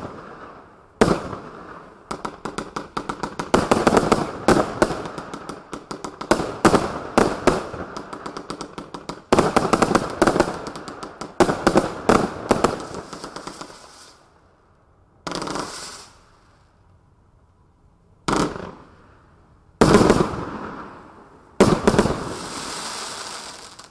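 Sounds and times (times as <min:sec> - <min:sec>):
firework crackling: 0:00.0 - 0:14.4, 0:15.3 - 0:16.7, 0:19.8 - 0:23.9.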